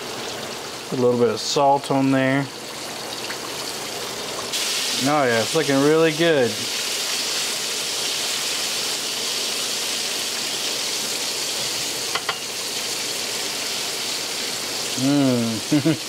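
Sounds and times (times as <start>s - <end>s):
fish deep-frying in oil: 0.0s - 16.0s.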